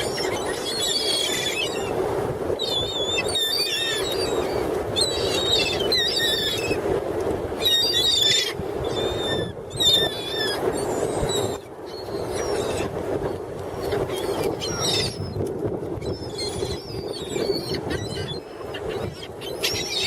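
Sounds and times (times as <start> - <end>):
seagulls crying: 0.0 - 1.9, 2.6 - 6.8, 7.6 - 12.9, 13.8 - 15.3, 16.0 - 20.0.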